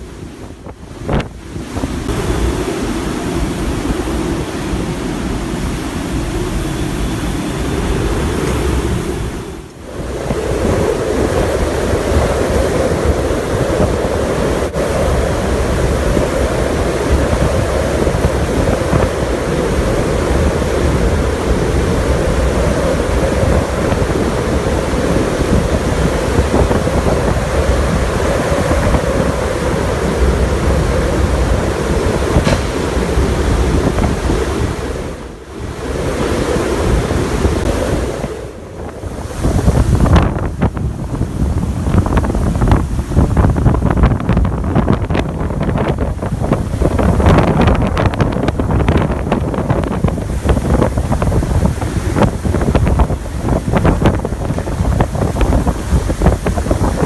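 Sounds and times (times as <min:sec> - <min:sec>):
wind blowing across microphone: 0:00.0 - 0:57.0.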